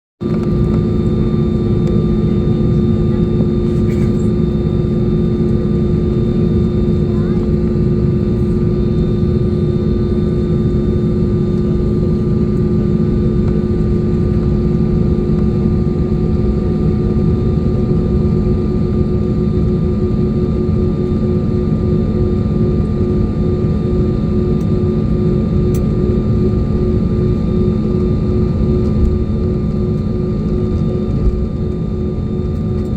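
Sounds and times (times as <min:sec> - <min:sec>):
jet engines whining in cabin: 0:00.2 - 0:32.9.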